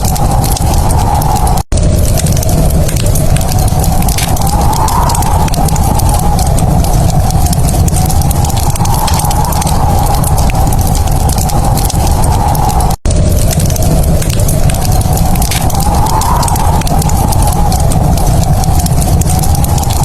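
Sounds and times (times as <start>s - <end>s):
fire crackling: 0.0s - 20.0s
low rumble: 0.0s - 20.0s.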